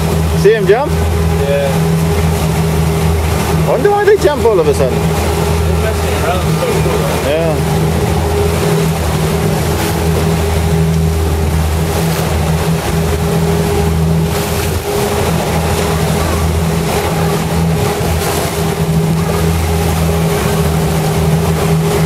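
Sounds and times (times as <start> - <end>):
boat engine droning: 0.0 - 22.0
rushing wake water: 0.0 - 22.0.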